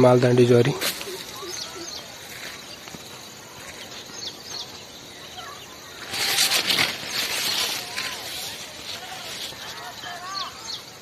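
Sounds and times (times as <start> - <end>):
crop leaves rustling: 0.0 - 11.0
faint bird chirps: 0.7 - 11.0.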